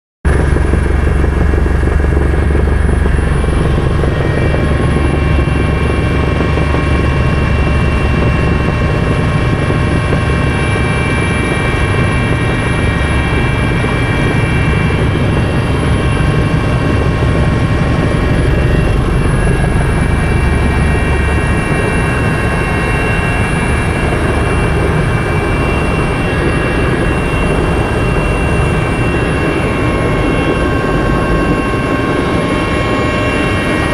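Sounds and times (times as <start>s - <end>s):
helicopter rotor beat: 0.3s - 33.9s
turbine whine: 0.3s - 33.9s.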